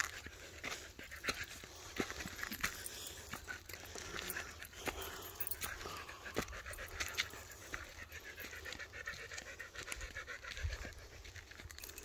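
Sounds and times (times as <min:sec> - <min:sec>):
dog panting: 0:00.0 - 0:12.0
footsteps crunching on dirt: 0:00.0 - 0:12.0.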